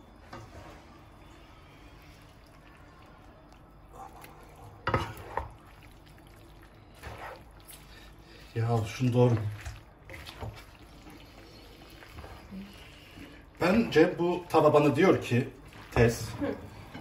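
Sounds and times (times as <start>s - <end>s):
pasta tossed in sauce in a pan: 0.1s - 17.0s.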